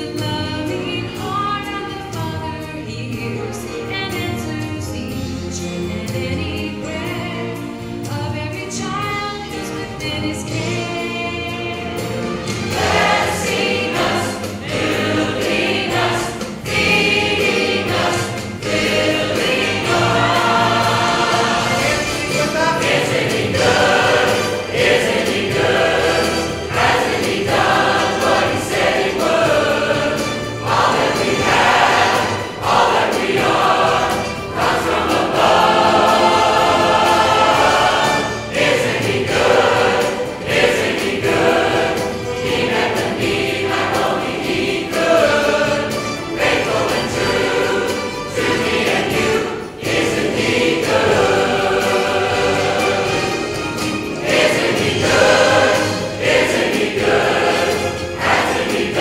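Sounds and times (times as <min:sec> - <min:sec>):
church choir singing gospel: 0:00.0 - 0:02.6, 0:04.8 - 0:59.0.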